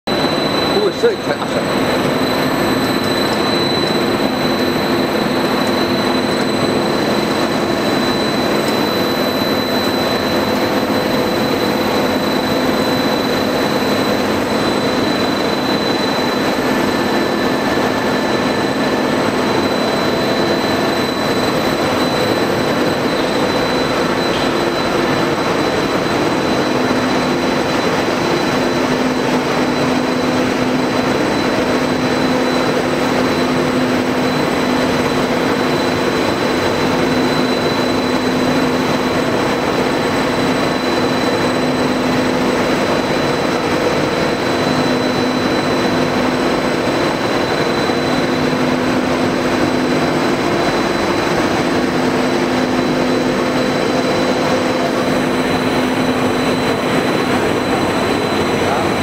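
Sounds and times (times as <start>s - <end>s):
high machine whine: 0.0s - 59.0s
machinery drone: 0.1s - 59.0s.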